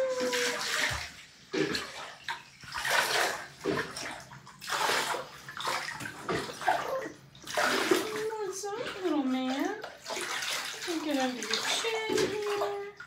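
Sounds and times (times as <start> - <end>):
shower water splashing in tub: 0.0 - 13.0.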